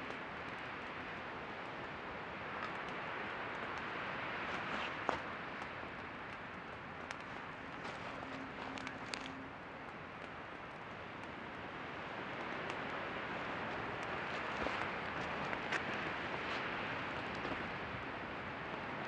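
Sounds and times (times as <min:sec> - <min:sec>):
campfire burning and crackling: 0:00.0 - 0:19.0.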